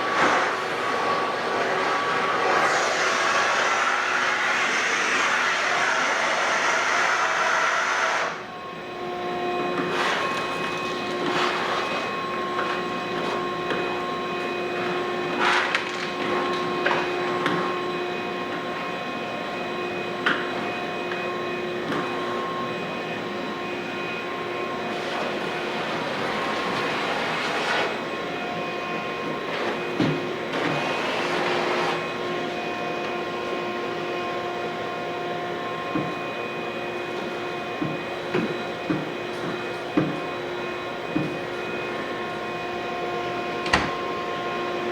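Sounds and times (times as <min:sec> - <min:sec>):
floor cleaning machine motor whine: 0:00.0 - 0:44.9.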